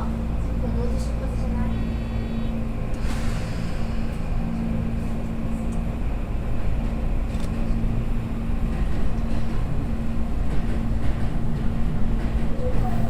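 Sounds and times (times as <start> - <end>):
train motor hum: 0.0 - 13.0
train wheels rumbling on rail: 0.0 - 13.0.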